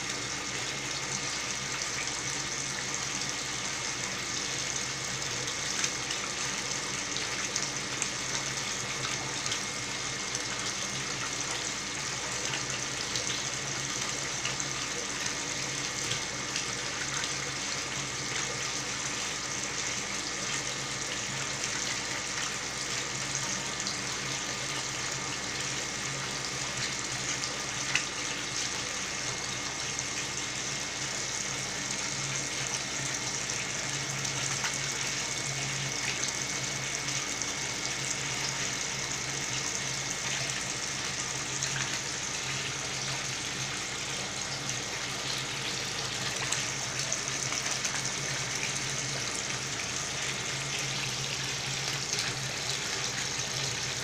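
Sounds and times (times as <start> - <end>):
filter pump humming: 0.0 - 54.0
water pouring into tank: 0.0 - 54.0.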